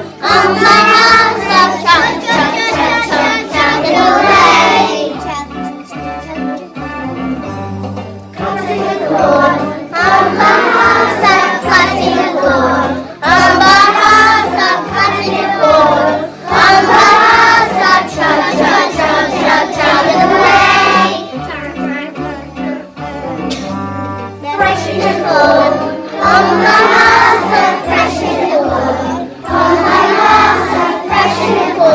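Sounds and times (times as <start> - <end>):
children singing together: 0.0 - 5.4, 8.4 - 23.7, 24.4 - 31.9
instrumental backing with bass line: 0.0 - 31.9.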